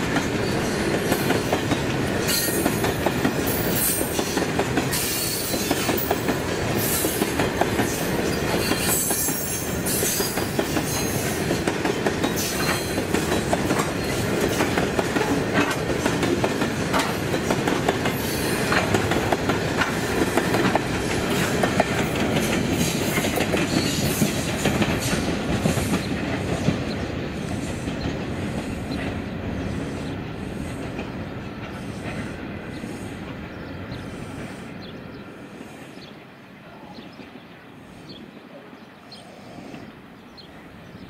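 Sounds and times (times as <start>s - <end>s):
freight train rolling past: 0.0s - 41.0s.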